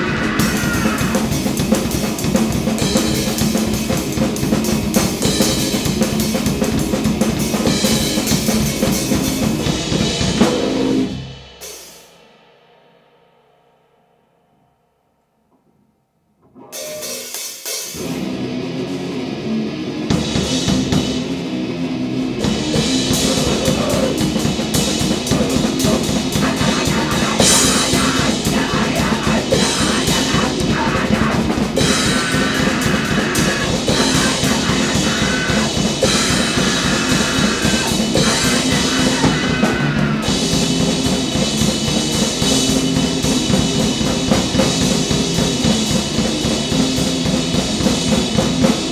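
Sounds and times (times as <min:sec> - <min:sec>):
heavily distorted guitar: 0:00.0 - 0:11.5, 0:16.4 - 0:48.9
fast drum kit with crashing cymbals: 0:00.0 - 0:13.3, 0:16.6 - 0:48.9.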